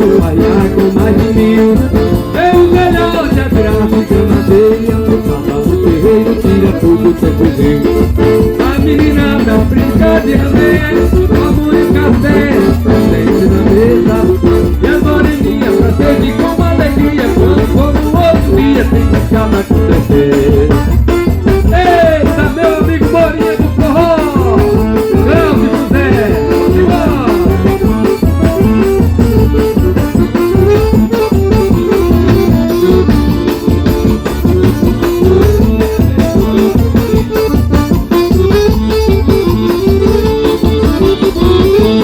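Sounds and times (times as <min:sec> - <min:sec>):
live folk dance music: 0:00.0 - 0:42.0.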